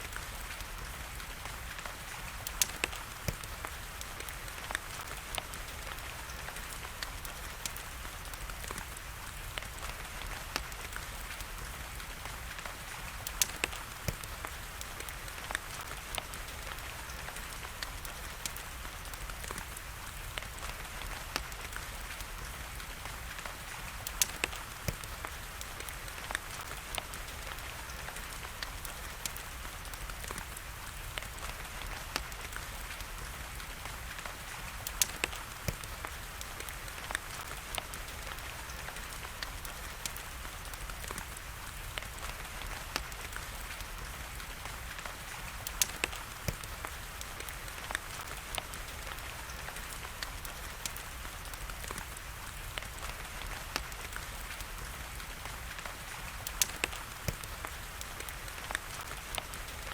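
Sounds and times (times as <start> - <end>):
rain hiss and patter: 0.0 - 59.9
wood fire crackling and popping: 0.0 - 59.9.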